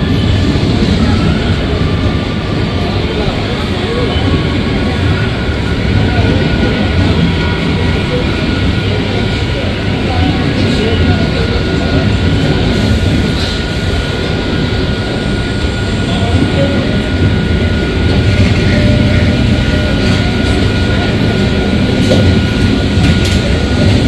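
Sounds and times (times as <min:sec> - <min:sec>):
train rumbling slowly: 0:00.0 - 0:24.0.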